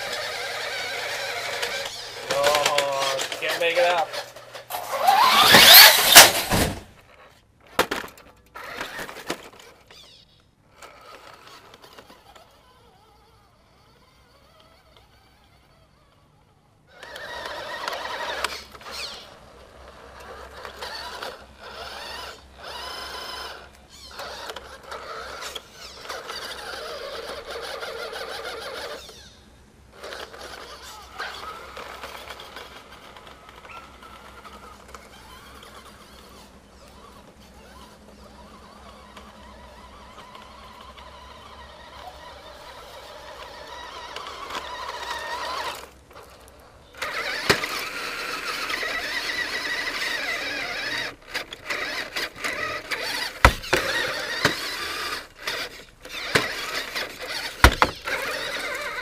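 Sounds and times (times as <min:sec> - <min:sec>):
toy truck motor whining: 0:00.0 - 0:59.0
tyres on dirt and dry leaves: 0:00.0 - 0:59.0.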